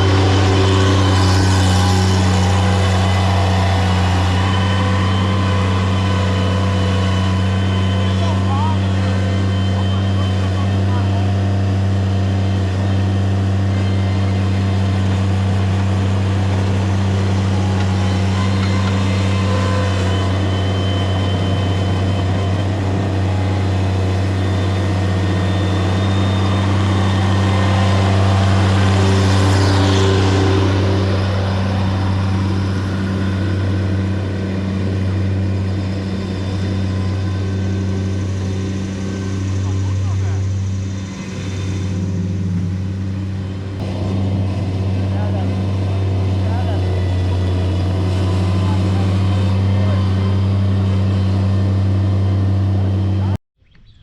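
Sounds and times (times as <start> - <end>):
heavy machinery engine humming: 0.0 - 53.4
high-pitched whine: 0.0 - 53.4.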